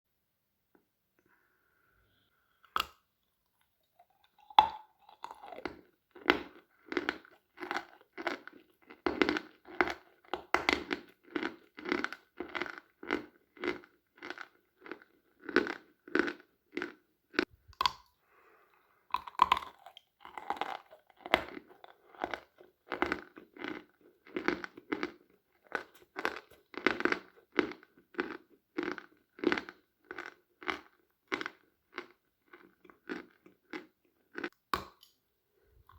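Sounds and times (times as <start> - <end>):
person biting and chewing chalk: 3.6 - 18.2, 19.1 - 35.0.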